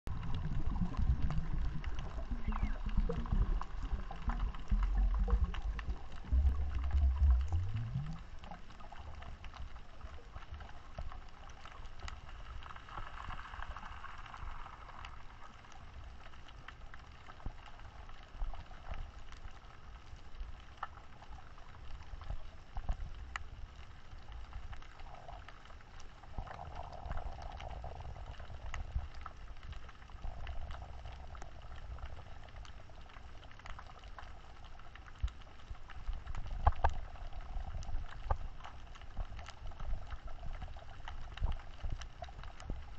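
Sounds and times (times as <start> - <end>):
crackling clicks: 0.1 - 42.9
underwater rumble of moving water: 0.1 - 42.9.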